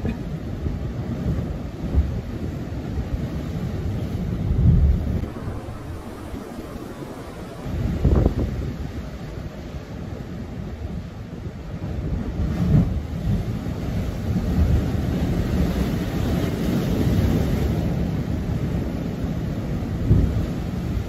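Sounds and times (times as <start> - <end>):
wind buffeting microphone: 0.2 - 21.0.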